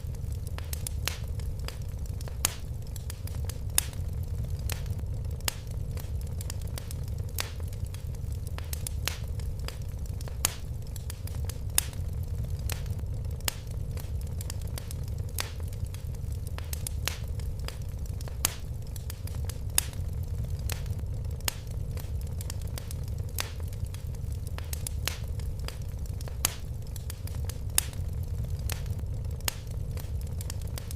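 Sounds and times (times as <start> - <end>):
fireplace fire crackling: 0.0 - 30.9
low rumble of flames: 0.0 - 30.9.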